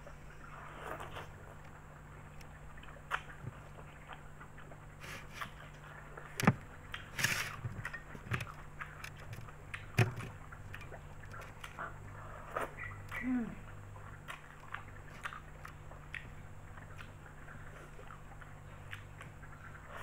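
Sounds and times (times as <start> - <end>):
mouth chewing with wet smacks: 0.0 - 20.0
steady low hum: 0.0 - 20.0.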